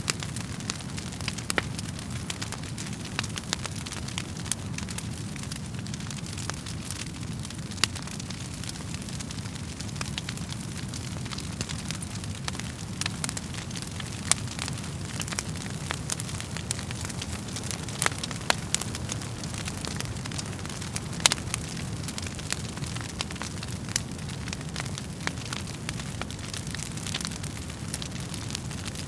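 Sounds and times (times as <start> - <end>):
low rumble of flames: 0.0 - 29.0
wood crackling and popping: 0.0 - 29.0.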